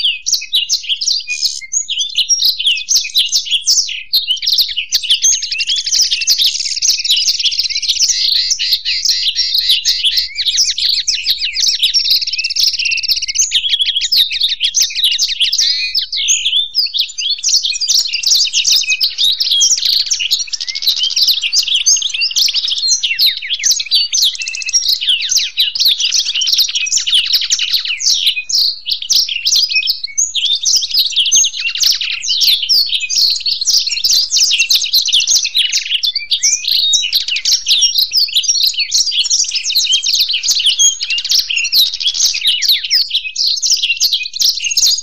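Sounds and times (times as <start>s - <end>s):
canary singing: 0.0s - 45.0s
goldfinch singing: 0.0s - 45.0s.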